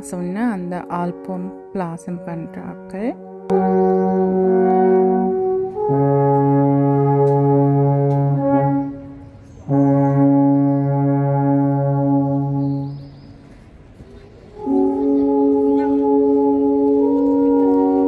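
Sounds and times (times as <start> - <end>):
alphorns playing held chords: 0.0 - 13.1, 14.3 - 18.0.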